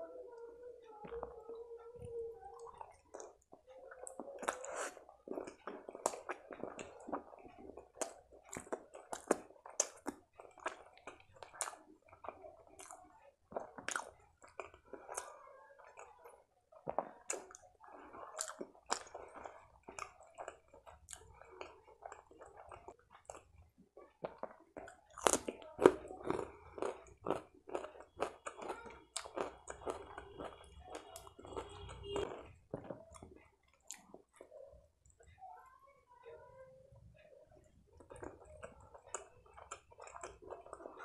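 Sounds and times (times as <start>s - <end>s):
mouth chewing with wet smacks: 2.5s - 35.4s, 37.6s - 41.0s.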